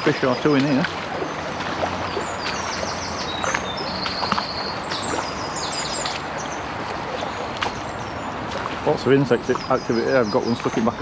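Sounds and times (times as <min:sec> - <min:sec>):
songbirds singing: 0:00.0 - 0:11.0
stream running over stones: 0:00.0 - 0:11.0.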